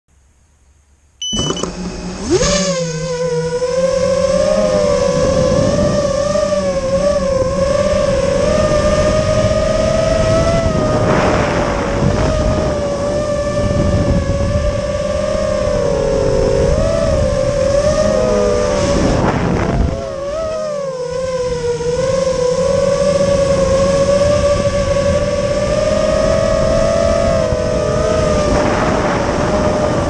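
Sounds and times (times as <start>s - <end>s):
quadcopter motors whining: 1.2s - 30.0s.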